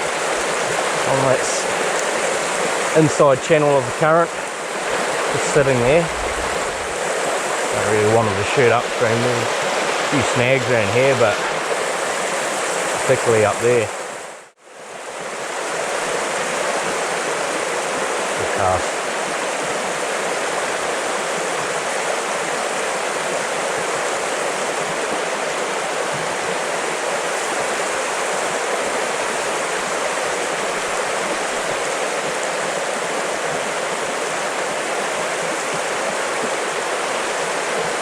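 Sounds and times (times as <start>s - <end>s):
stream rushing and burbling: 0.0s - 38.0s.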